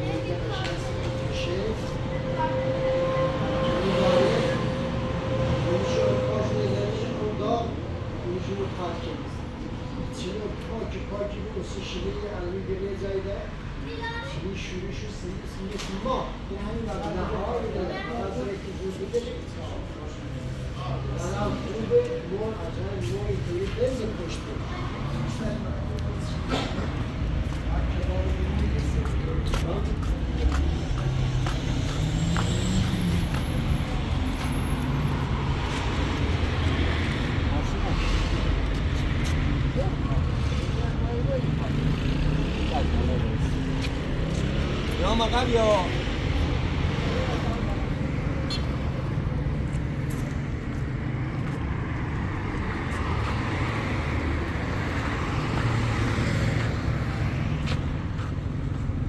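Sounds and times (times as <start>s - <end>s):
vehicle road noise rumble: 0.0s - 59.0s.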